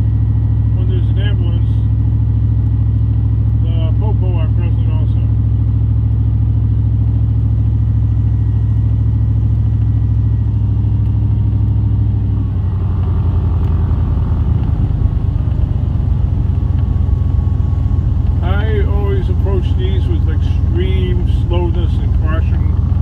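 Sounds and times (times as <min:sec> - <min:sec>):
road noise: 0:00.0 - 0:23.0
truck engine drone: 0:00.0 - 0:23.0.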